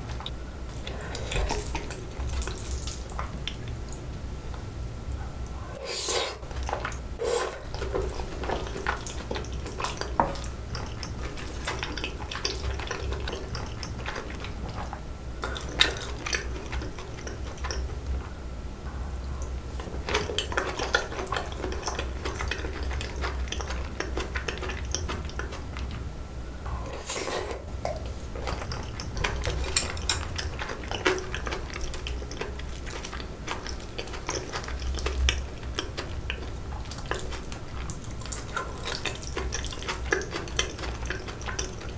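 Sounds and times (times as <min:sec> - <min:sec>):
wet chewing: 0:00.0 - 0:18.4, 0:19.2 - 0:41.9.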